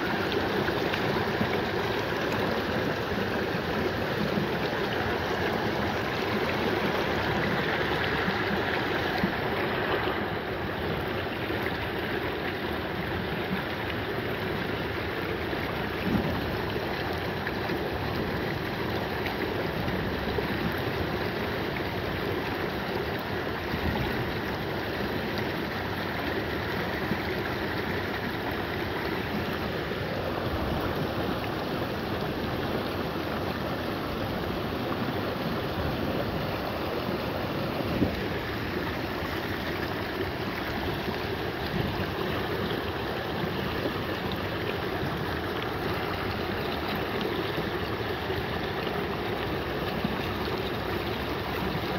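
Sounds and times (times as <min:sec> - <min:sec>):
stream flowing over cobbles: 0:00.0 - 0:51.9.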